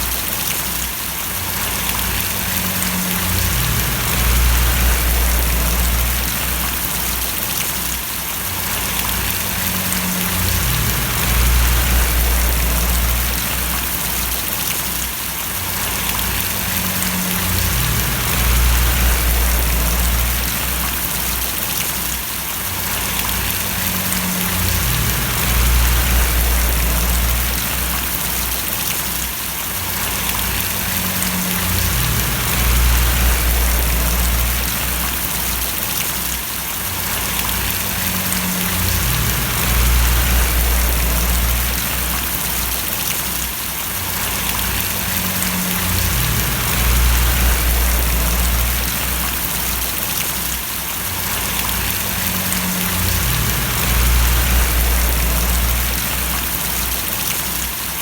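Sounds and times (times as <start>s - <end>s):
rain falling: 0.0s - 58.0s
low droning hum: 1.5s - 7.6s, 8.5s - 14.7s, 15.6s - 21.8s, 22.7s - 29.1s, 29.8s - 36.0s, 36.9s - 43.2s, 44.0s - 57.4s.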